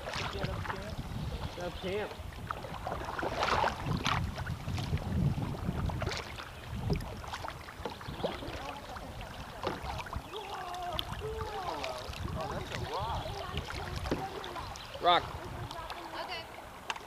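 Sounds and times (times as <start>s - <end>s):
paddle splashing in water: 0.0s - 17.0s
water rushing along hull: 0.0s - 17.0s.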